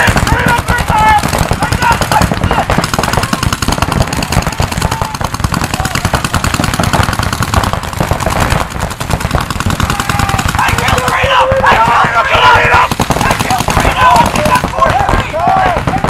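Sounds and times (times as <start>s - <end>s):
paintball markers firing: 0.0s - 16.0s.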